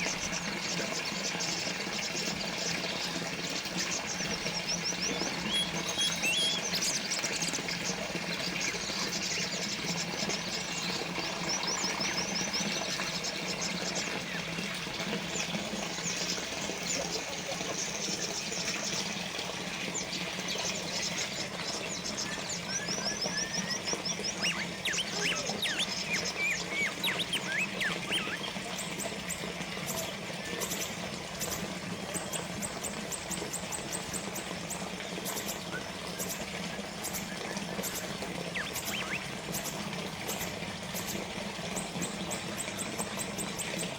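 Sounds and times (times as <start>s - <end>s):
small birds chirping: 0.0s - 43.9s
water fountain trickling: 0.0s - 43.9s.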